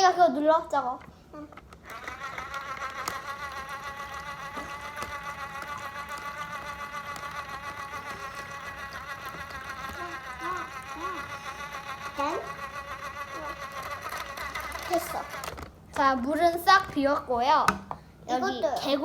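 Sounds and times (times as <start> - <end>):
spinner motor humming: 1.4 - 18.4.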